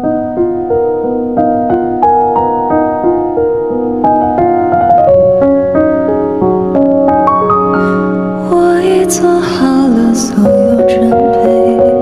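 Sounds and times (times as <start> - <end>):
slow piano ballad: 0.0 - 12.0.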